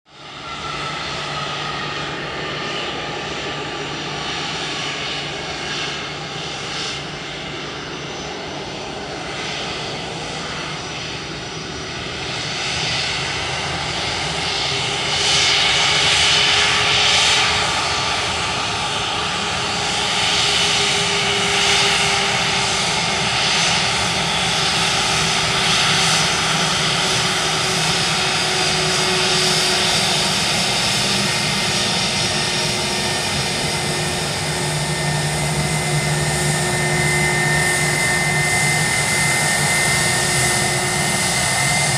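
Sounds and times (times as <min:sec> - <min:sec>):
jet engines whining: 0:00.1 - 0:41.9.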